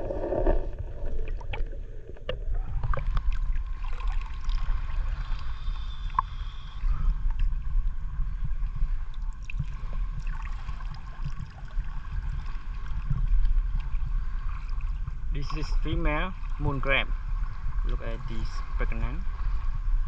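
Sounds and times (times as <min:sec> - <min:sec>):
muffled rumble of moving water: 0:00.0 - 0:20.0.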